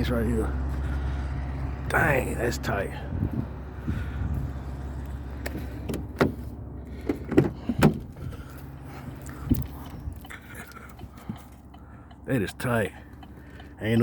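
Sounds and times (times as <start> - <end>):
low mechanical hum: 0.0 - 12.3.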